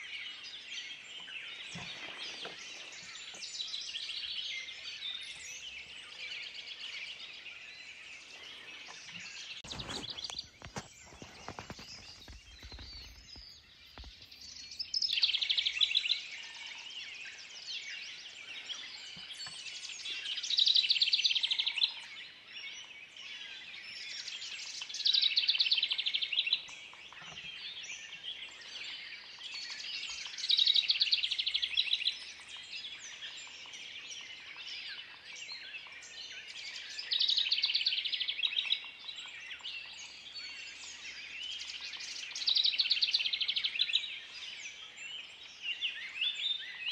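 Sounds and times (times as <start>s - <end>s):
chorus of other birds: 0.0s - 46.9s
songbird trilled song: 0.0s - 46.9s.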